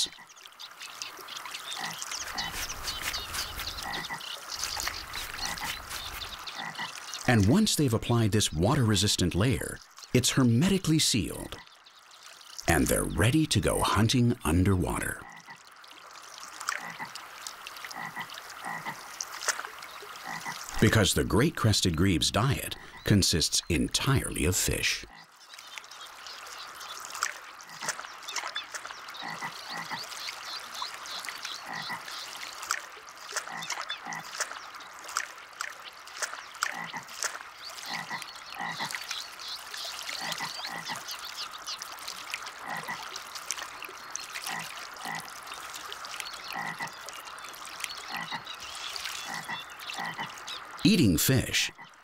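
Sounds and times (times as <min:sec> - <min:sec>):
frogs croaking: 0:00.0 - 0:08.8, 0:11.3 - 0:52.0.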